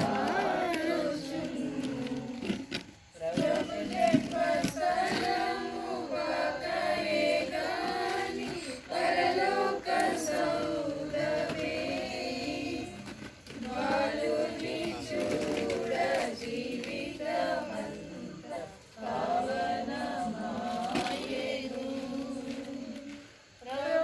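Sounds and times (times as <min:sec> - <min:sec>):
group of people singing: 0:00.0 - 0:24.0.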